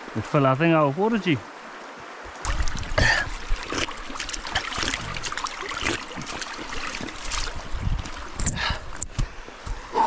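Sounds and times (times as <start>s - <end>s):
creek rushing: 0.0s - 10.0s.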